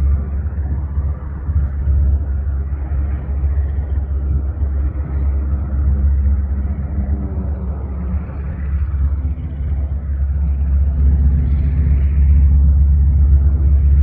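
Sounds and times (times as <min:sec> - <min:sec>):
radial aircraft engine rumbling: 0:00.0 - 0:14.0.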